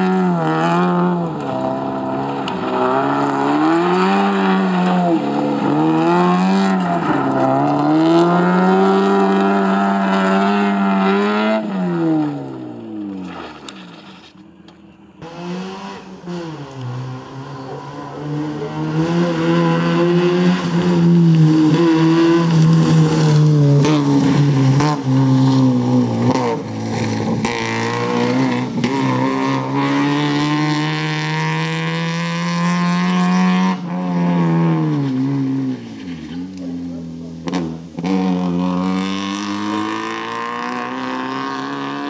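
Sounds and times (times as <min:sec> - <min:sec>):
car engine revving hard: 0:00.0 - 0:12.5, 0:15.2 - 0:42.0.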